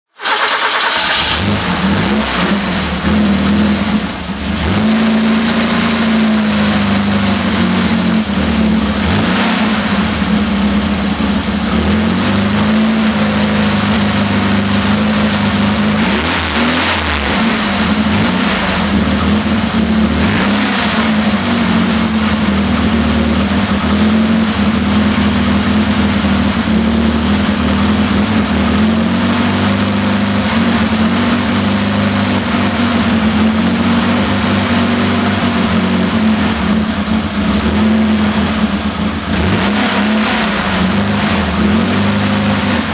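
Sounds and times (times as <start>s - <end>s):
car engine running: 0.2s - 42.9s.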